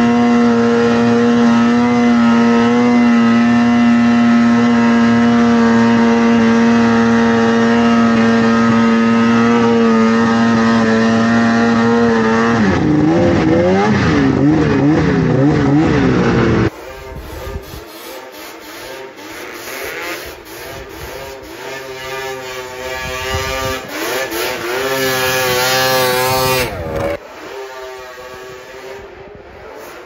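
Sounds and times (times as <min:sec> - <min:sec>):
snowmobile engine revving: 0:00.0 - 0:30.0.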